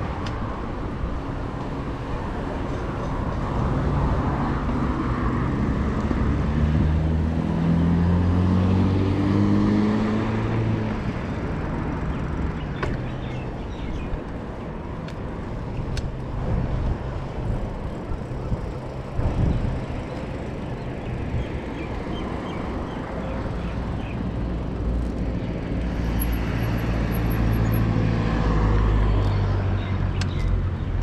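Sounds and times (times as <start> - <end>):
road noise: 0.0 - 31.0.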